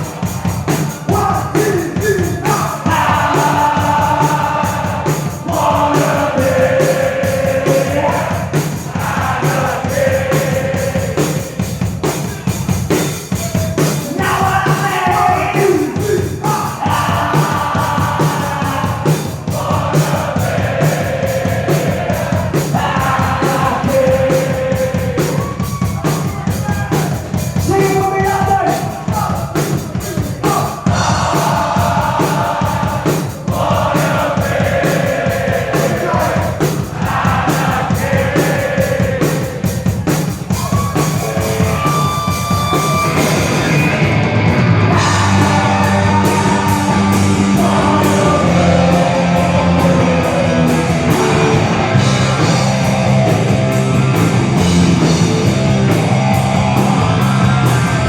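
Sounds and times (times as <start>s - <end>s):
shouted sung vocals: 0.0s - 12.6s, 13.2s - 58.0s
drums: 0.0s - 58.0s
punk rock band playing: 0.0s - 58.0s.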